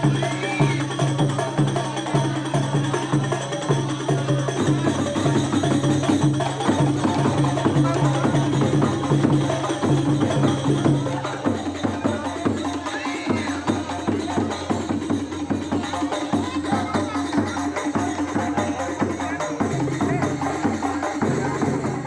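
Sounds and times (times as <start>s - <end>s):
procession music with drums: 0.0s - 22.0s.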